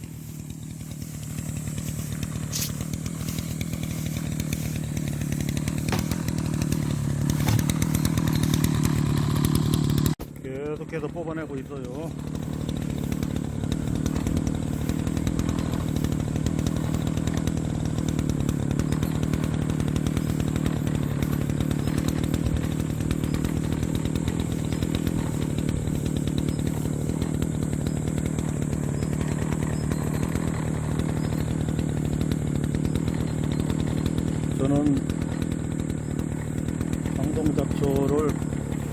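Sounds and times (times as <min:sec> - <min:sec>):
brush cutter engine cutting grass: 0:00.0 - 0:38.9.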